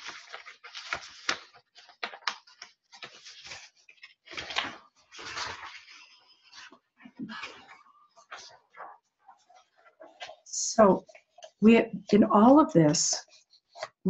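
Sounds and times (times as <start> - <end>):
paper rustling: 0.0 - 11.6, 13.2 - 14.0.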